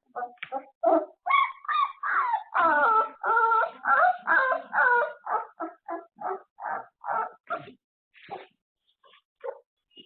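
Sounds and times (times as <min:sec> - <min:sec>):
puppies whimpering and yipping: 0:00.0 - 0:08.5.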